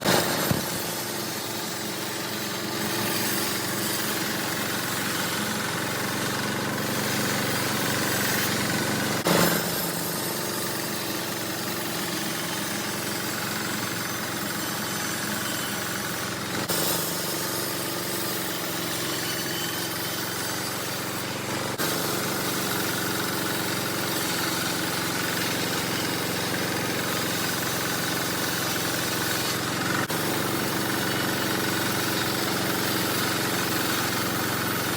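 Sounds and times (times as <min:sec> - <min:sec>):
band sawmill droning: 0:00.0 - 0:34.9.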